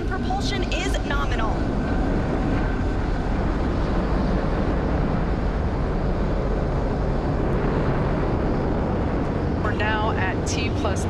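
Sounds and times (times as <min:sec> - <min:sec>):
rocket engines deep rumble: 0:00.0 - 0:11.0.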